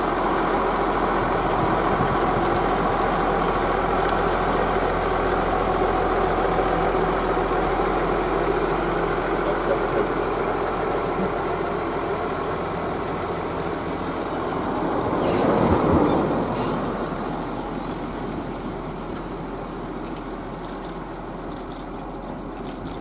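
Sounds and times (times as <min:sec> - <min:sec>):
diesel train passing: 0:00.0 - 0:23.0.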